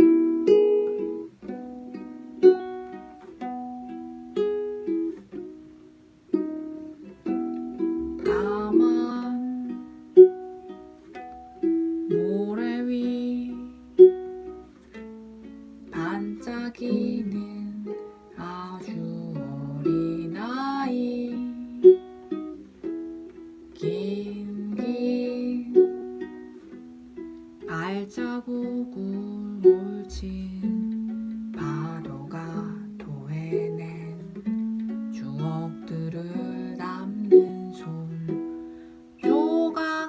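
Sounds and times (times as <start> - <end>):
ukulele plucked chords: 0.0 - 40.0.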